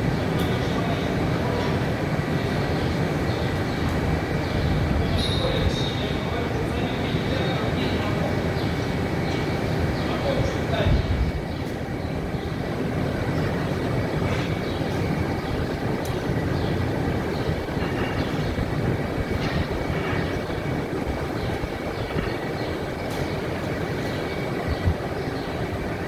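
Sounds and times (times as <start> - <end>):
machinery rumbling and hissing: 0.0 - 26.0.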